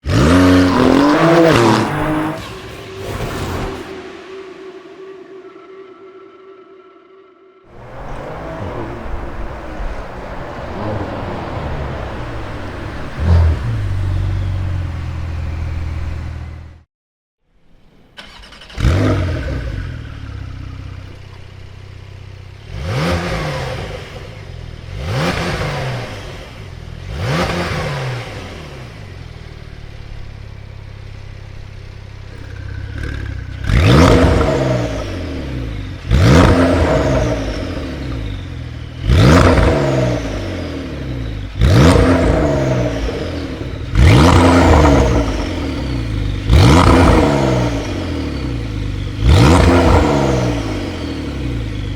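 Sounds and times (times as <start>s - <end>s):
car engine revving and idling: 0.0s - 4.3s, 7.7s - 16.9s, 18.2s - 51.9s.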